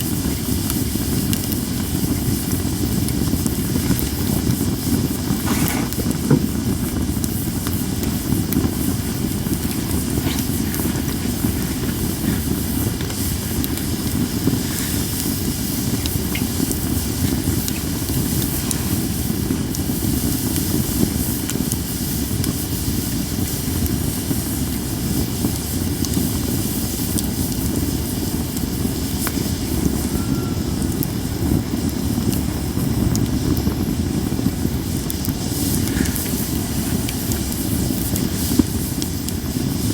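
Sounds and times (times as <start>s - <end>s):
campfire rushing and hissing: 0.0s - 39.9s
faint fire crackles: 0.0s - 39.9s.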